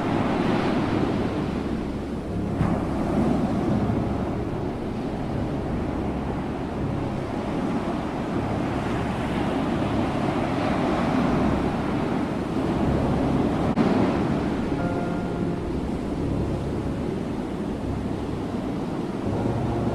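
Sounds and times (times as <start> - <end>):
ocean waves breaking: 0.0 - 19.9.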